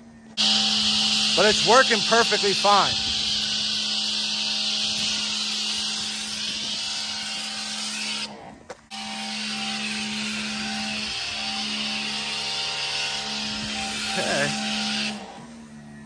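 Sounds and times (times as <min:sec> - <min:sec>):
electric motor and pump hum: 0:00.0 - 0:16.0
pressure washer spray hissing: 0:00.4 - 0:08.3, 0:09.0 - 0:15.2.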